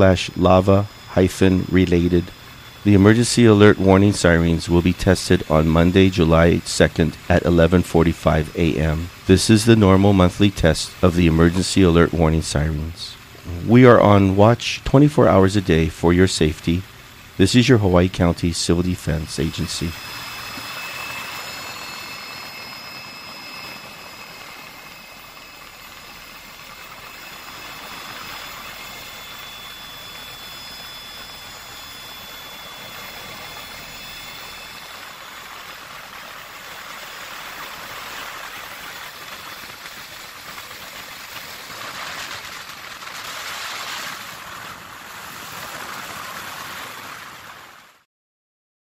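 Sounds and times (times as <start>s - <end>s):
helicopter in flight: 0.0s - 48.0s.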